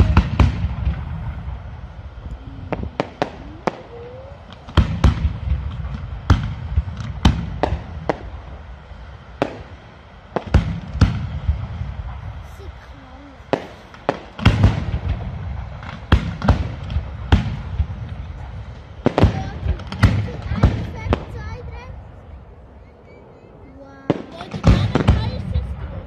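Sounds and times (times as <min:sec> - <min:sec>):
firework shells bursting: 0:00.0 - 0:21.9
low rumble: 0:00.0 - 0:26.0.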